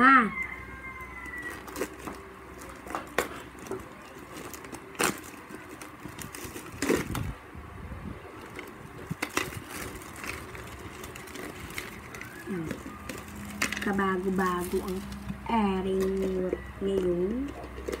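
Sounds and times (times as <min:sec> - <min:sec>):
plastic bag crinkling: 0:00.3 - 0:07.4, 0:08.3 - 0:18.0.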